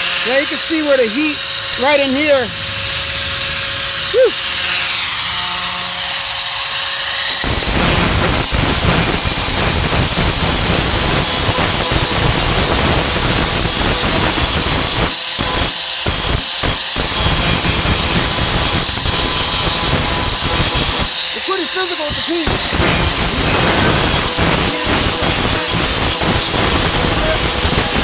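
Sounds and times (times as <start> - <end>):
angle grinder grinding steel: 0.0 - 28.0.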